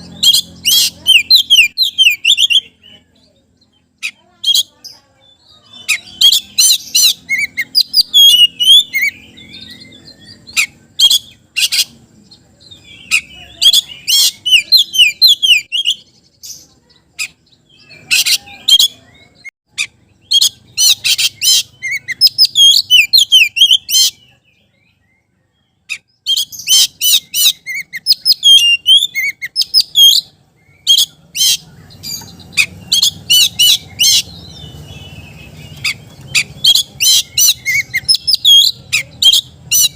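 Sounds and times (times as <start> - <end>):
bird singing whistles and chirps: 0.0 - 12.0, 12.6 - 16.7, 17.6 - 39.9.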